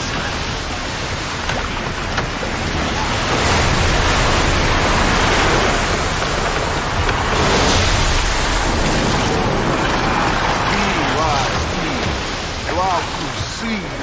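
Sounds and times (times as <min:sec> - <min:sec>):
wind and waves surging: 0:00.0 - 0:14.0.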